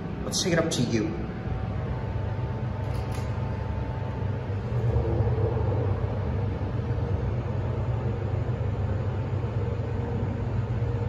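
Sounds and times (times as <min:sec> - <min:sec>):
elevator hum: 0:00.0 - 0:11.0.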